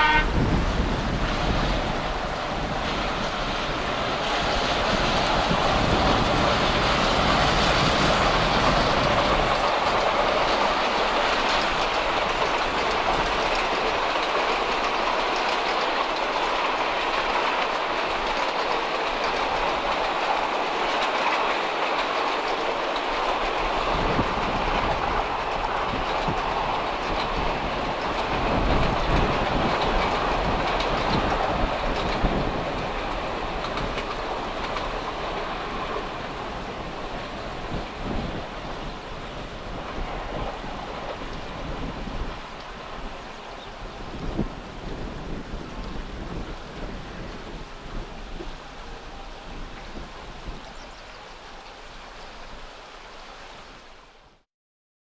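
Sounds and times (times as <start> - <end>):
train wheels clicking over rail joints: 0.0 - 54.1
passenger train rolling past: 0.0 - 54.4.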